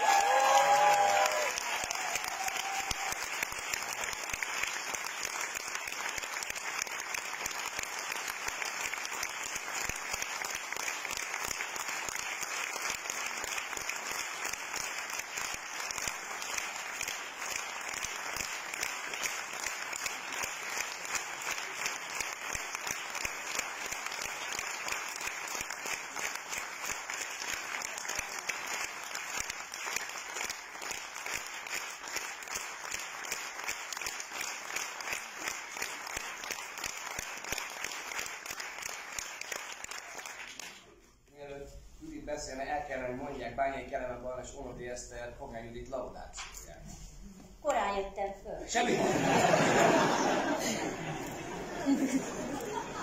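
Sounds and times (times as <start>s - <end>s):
audience applauding: 0.0s - 41.0s, 48.8s - 53.0s.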